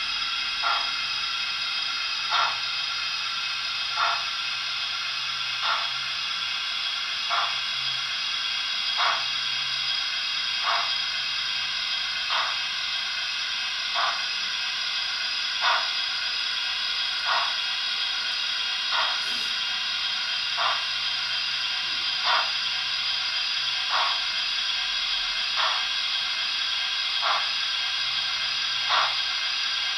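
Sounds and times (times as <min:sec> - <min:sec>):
model steam locomotive hiss: 0:00.0 - 0:29.9.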